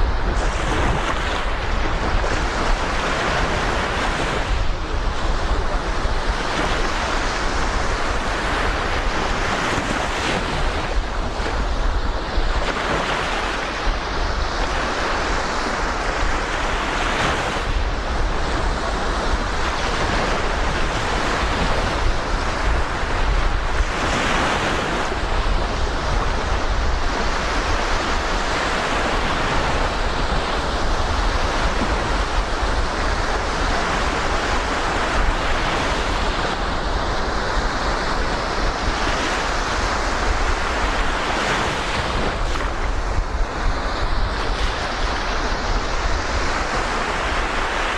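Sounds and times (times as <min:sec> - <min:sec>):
surf washing on shore: 0:00.0 - 0:47.9
wind buffeting microphone: 0:00.0 - 0:47.9.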